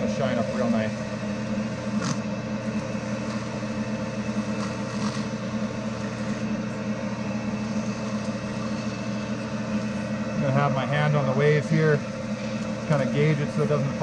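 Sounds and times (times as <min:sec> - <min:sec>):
metal lathe motor and gear hum: 0:00.0 - 0:14.0.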